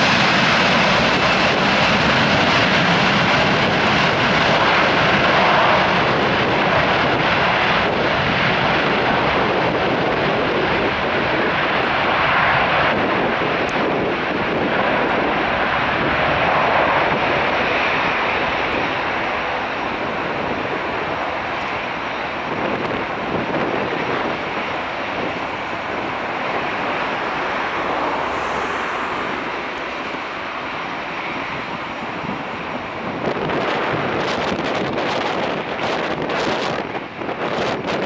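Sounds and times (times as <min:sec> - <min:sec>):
jet engines rumbling: 0:00.0 - 0:38.0
wind buffeting microphone: 0:00.0 - 0:38.0.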